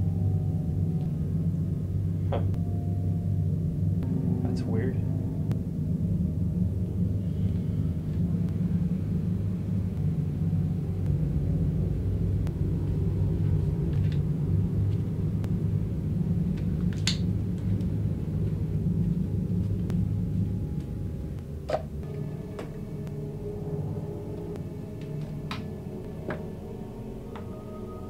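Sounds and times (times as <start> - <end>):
low rumbling drone: 0.0 - 28.0.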